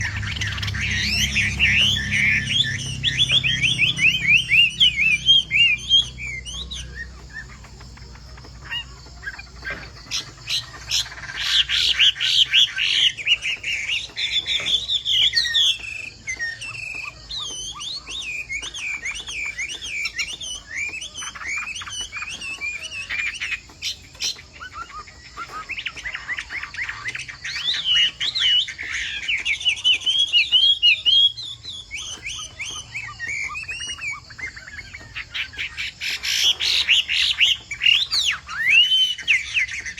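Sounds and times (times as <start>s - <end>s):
bird singing warbled whistles: 0.0s - 39.9s.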